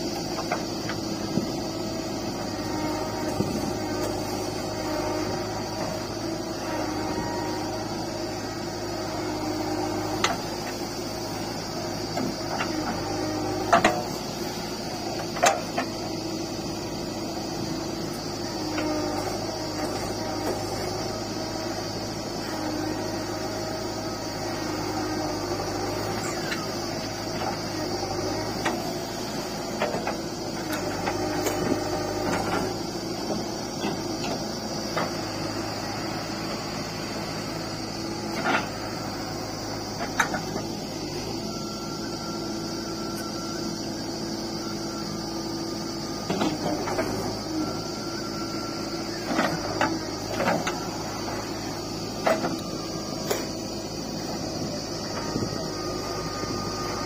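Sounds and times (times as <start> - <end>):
diesel engine running: 0.0 - 57.0
hydraulics digging soil: 0.0 - 57.0.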